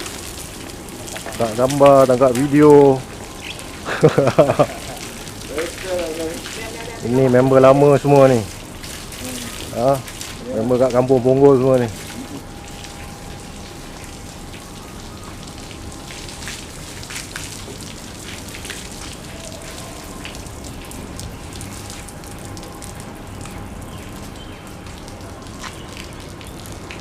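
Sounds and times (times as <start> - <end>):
faint steady hum: 0.0 - 27.0
rain pattering: 0.0 - 27.0.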